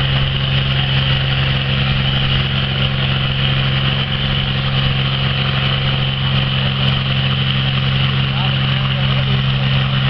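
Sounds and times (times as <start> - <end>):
tractor engine deep drone: 0.0 - 10.0.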